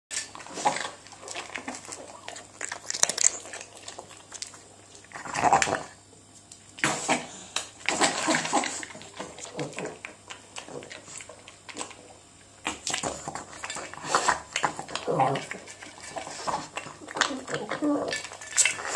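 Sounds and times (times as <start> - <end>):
dog eating noisily: 0.1 - 18.9.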